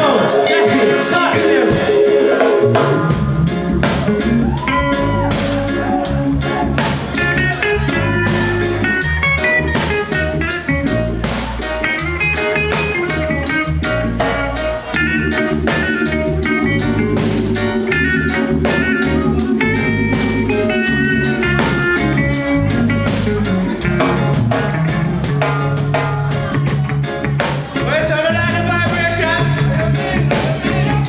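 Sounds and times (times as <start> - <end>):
melodic lead line: 0.0 - 30.8
bass line: 0.0 - 31.0
drum kit beat: 0.0 - 31.0
guitar: 0.0 - 31.0.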